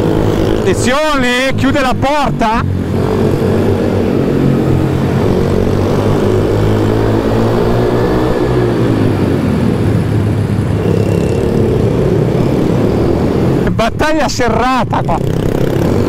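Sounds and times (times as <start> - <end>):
pit bike engines at high revs: 0.0 - 16.0.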